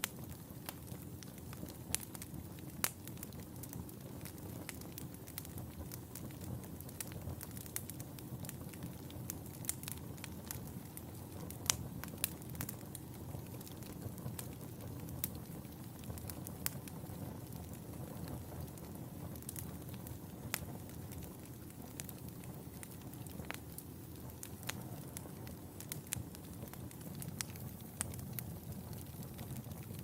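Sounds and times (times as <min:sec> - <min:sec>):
wood fire crackling and popping: 0:00.0 - 0:30.0
flames rushing: 0:00.1 - 0:30.0.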